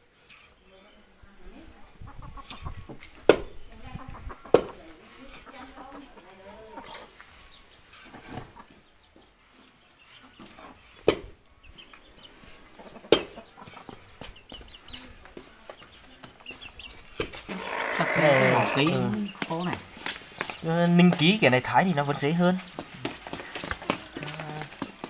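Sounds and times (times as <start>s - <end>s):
chickens clucking: 1.7s - 25.0s.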